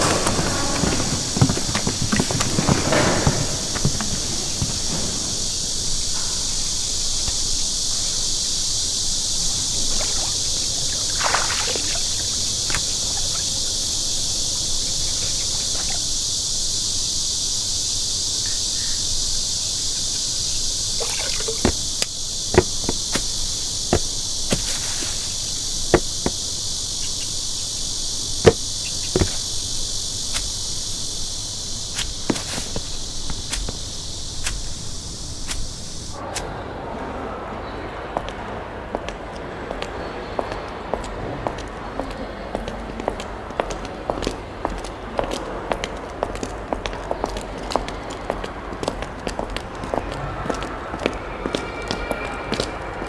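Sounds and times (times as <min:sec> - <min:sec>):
insects chorus: 0:00.0 - 0:36.7, 0:40.0 - 0:53.0.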